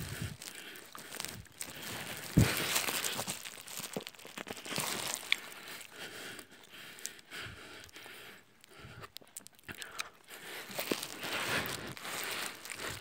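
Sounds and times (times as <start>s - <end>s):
wet chewing and mouth noises: 0.0s - 13.0s.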